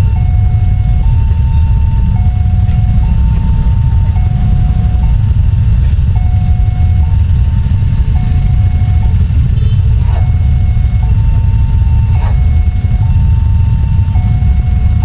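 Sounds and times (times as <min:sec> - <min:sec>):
low rumble: 0:00.0 - 0:15.0
two-tone electronic alarm: 0:00.0 - 0:15.0.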